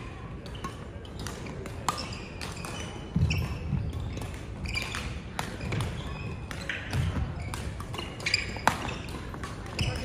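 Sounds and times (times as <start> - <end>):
rackets striking shuttlecock: 0.0 - 10.0
sneakers squeaking on wooden floor: 0.4 - 10.0.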